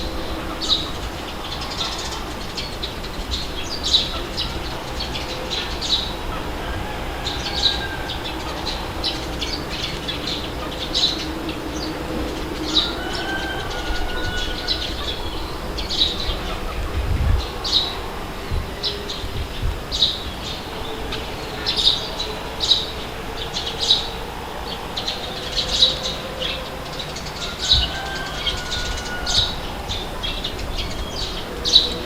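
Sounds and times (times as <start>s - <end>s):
low wind rumble: 0.0s - 32.0s
small birds chirping: 0.0s - 32.0s.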